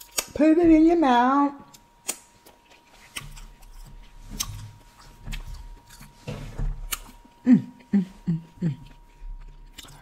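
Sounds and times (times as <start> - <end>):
person chewing food: 1.7 - 10.0.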